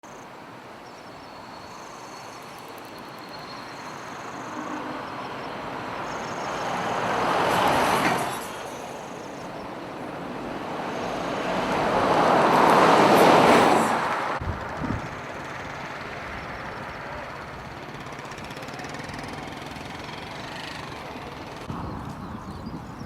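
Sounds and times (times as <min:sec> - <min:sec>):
vehicles passing close by: 0:02.0 - 0:23.0.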